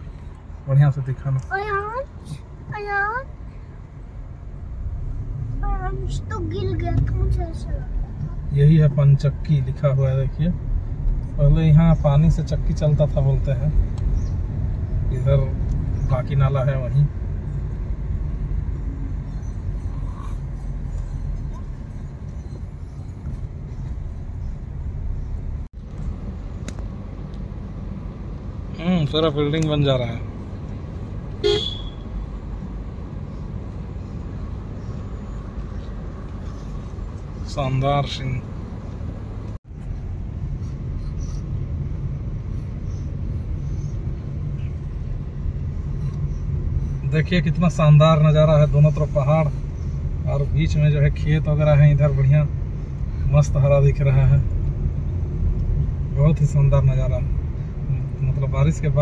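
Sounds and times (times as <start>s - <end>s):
car cabin road and engine noise: 0.0s - 59.0s.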